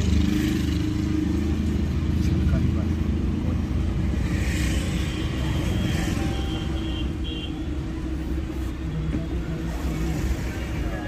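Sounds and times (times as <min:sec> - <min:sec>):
traffic engine rumble: 0:00.0 - 0:11.0.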